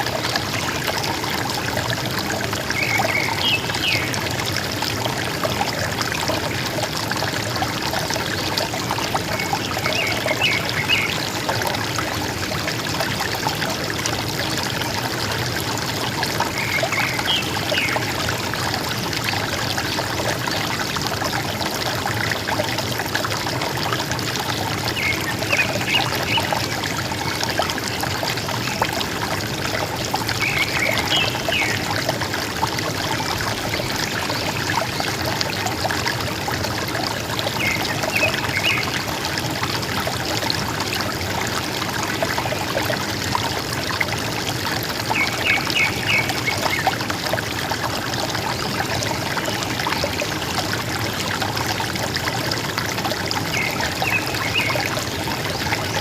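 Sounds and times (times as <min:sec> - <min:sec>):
river water gurgling: 0:00.0 - 0:56.0.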